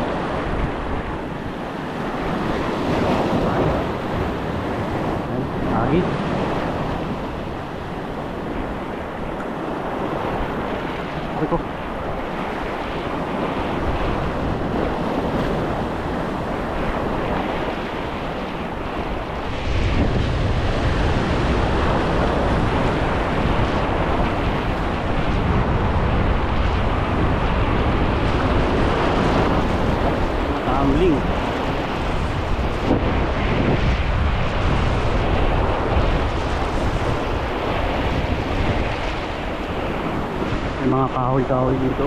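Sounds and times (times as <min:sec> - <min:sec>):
waves breaking over rocks: 0:00.0 - 0:42.0
wind rumbling on microphone: 0:00.0 - 0:42.0.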